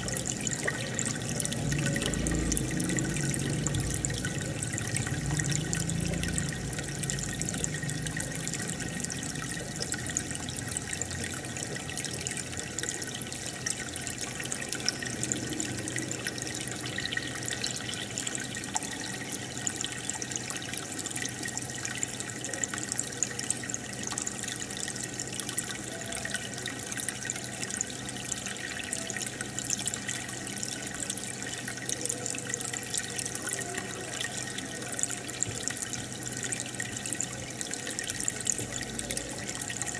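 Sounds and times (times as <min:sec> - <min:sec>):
aquarium bubbles popping and trickling: 0:00.0 - 0:39.9
low steady hum: 0:00.0 - 0:39.9.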